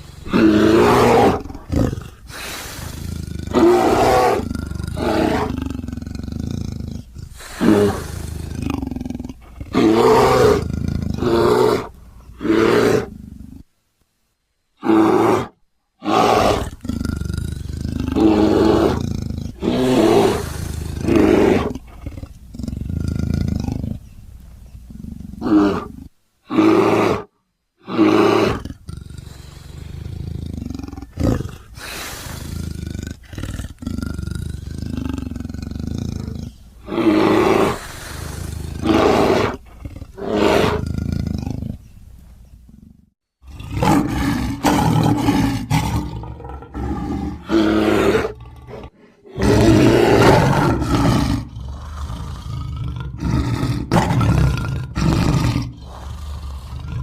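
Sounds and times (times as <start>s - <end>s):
bear roars and growls: 0.0s - 13.7s, 14.8s - 24.2s, 24.9s - 41.9s, 42.7s - 57.0s.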